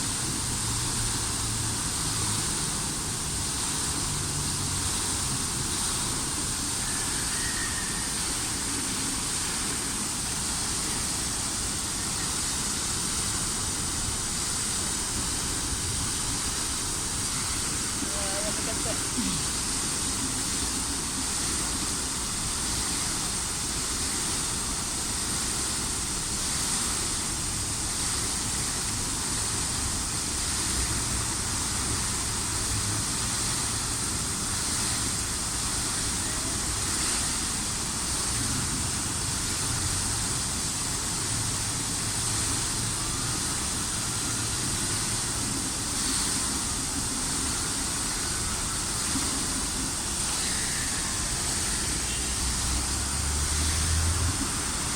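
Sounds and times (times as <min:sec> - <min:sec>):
fountain water splashing: 0:00.0 - 0:54.9
low hum of street traffic: 0:00.0 - 0:54.9.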